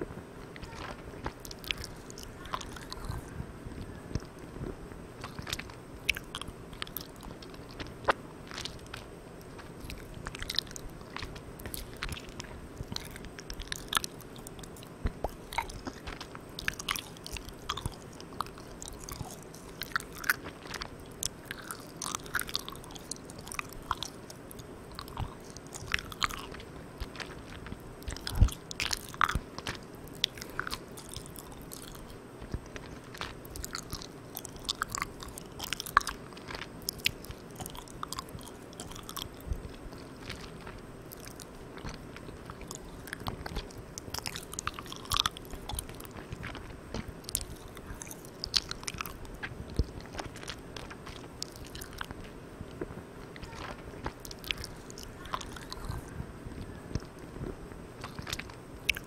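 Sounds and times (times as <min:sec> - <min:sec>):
microphone hiss: 0:00.0 - 0:59.0
mouth chewing sticky candy: 0:00.0 - 0:59.0.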